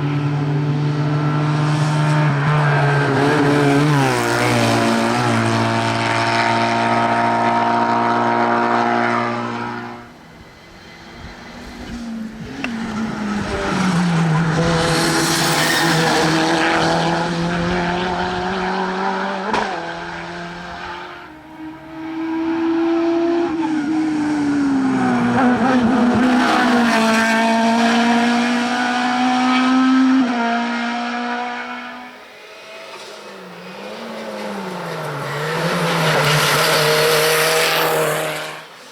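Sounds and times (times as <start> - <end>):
racing car engines at high revs: 0.0 - 38.9.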